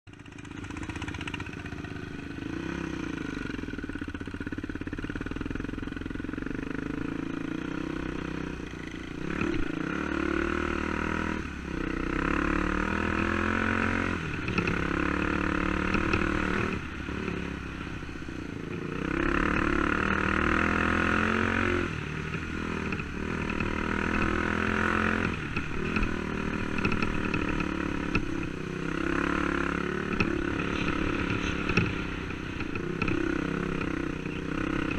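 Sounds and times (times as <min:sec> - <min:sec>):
dirt bike engine revving: 0:00.1 - 0:03.7, 0:06.5 - 0:17.9, 0:18.6 - 0:34.9.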